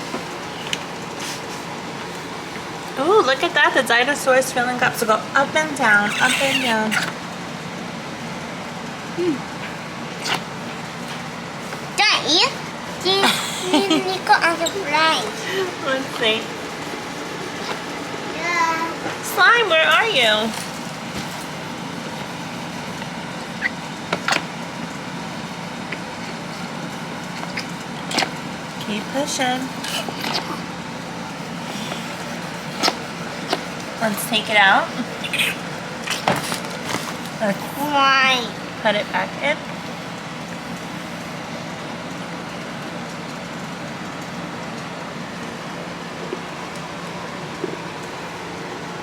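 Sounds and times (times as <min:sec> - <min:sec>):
steady background hum: 0:00.0 - 0:49.0.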